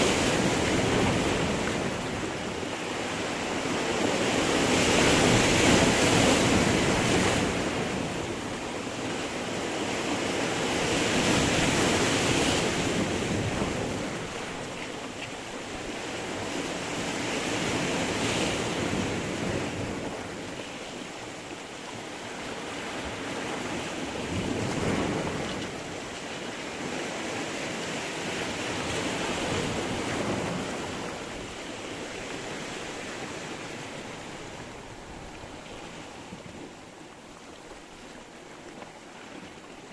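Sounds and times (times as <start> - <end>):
sea waves breaking on rocks: 0.0 - 39.9.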